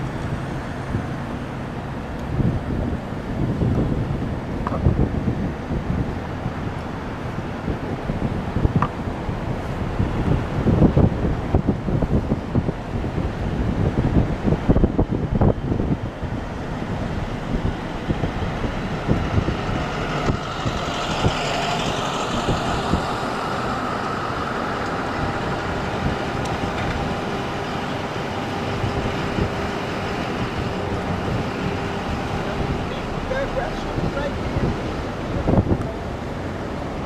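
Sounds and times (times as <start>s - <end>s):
traffic engine noise: 0.0s - 37.0s
wind buffeting microphone: 0.0s - 37.0s.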